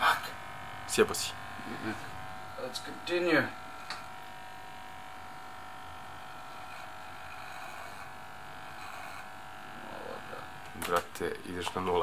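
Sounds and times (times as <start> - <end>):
electric hair clipper running: 0.0 - 12.0.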